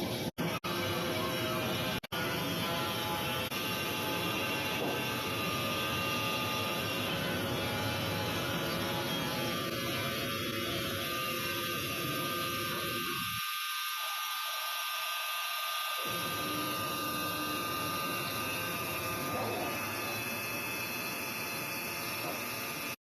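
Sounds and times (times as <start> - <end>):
band sawmill whining: 0.6 - 13.4, 16.0 - 23.0.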